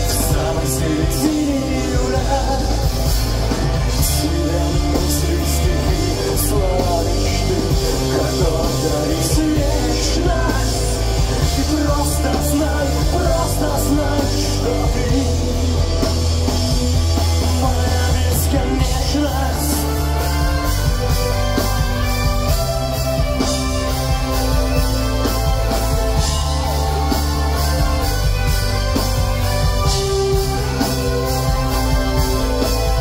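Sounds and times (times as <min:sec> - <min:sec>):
pop-punk band playing live: 0:00.0 - 0:33.0.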